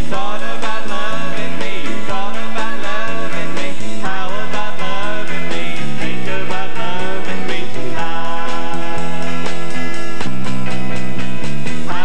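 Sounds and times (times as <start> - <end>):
drum kit steady beat: 0.0 - 12.0
electric bass: 0.0 - 12.0
guitars holding notes: 0.0 - 12.0.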